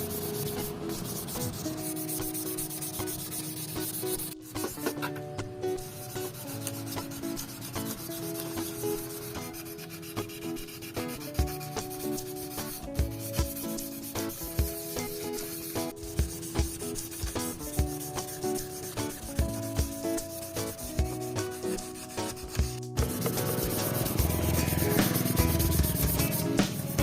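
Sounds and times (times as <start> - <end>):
sanding rasping: 0.0 - 5.2, 5.8 - 27.0
background music: 0.0 - 27.0.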